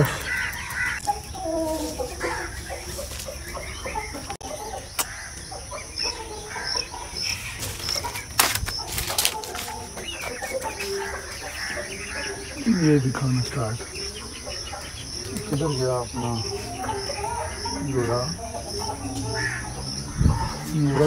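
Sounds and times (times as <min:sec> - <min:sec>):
birds calling: 0:00.0 - 0:21.0
high bird chirp: 0:00.0 - 0:21.0.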